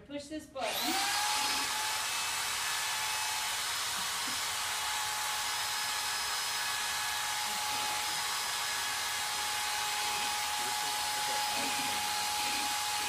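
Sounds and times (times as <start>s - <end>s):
electric drill mixing in bucket: 0.6s - 13.0s.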